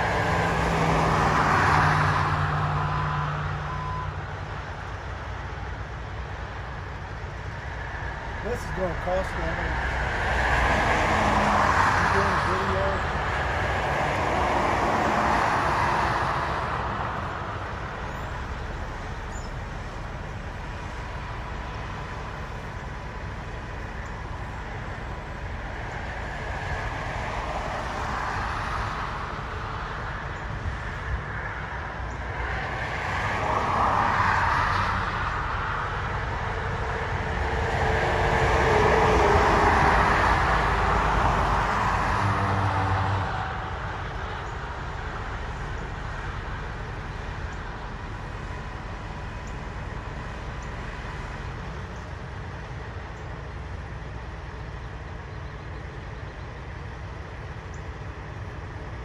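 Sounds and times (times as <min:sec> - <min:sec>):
low engine rumble: 0:00.0 - 0:14.9, 0:16.3 - 0:59.0
highway traffic passing: 0:00.0 - 0:59.0.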